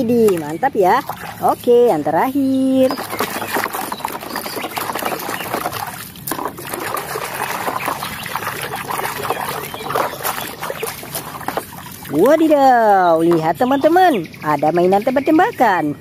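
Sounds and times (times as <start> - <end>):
water splashing and trickling: 0.0 - 15.8.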